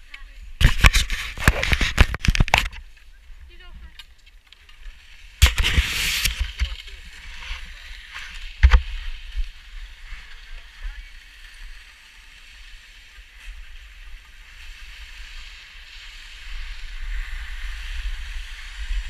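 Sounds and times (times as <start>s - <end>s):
wind rumbling on microphone: 0.0s - 4.1s, 4.8s - 19.0s
skis scraping over snow: 0.0s - 19.0s.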